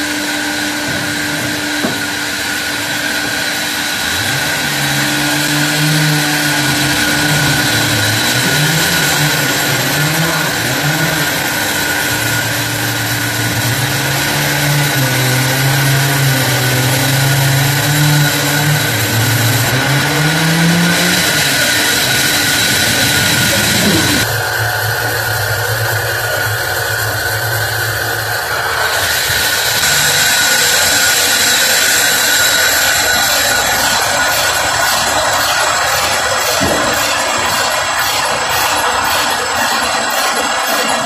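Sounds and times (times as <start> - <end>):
band saw cutting log: 0.0 - 41.0.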